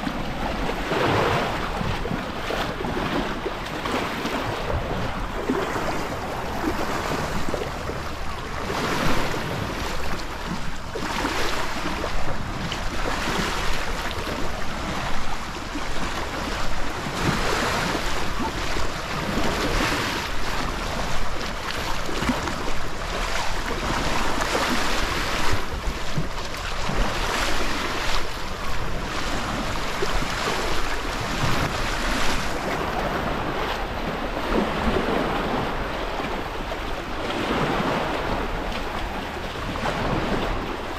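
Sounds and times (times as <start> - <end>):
sea waves washing onto shore: 0.0 - 40.9
wind noise on microphone: 0.0 - 40.9.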